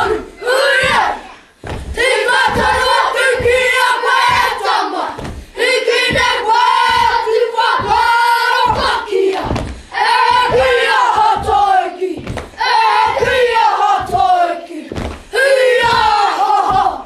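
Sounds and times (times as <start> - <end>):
children chanting in unison: 0.0 - 17.0
stamping thumps: 0.8 - 17.0.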